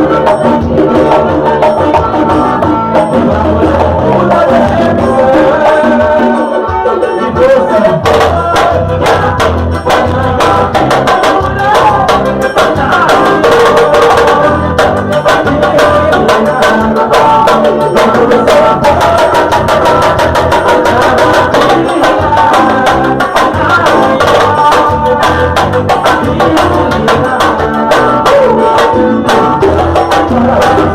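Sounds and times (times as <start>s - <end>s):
fast drums: 0.0s - 30.9s
heavy bass: 0.0s - 30.9s
melodic line: 0.0s - 30.9s.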